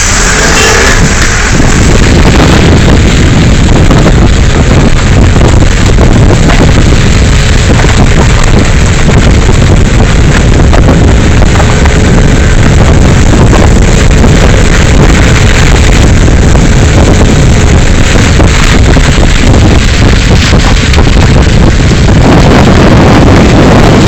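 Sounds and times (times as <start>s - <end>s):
vehicle rumbling on dirt road: 0.0s - 24.0s
wind buffeting microphone: 0.0s - 24.0s.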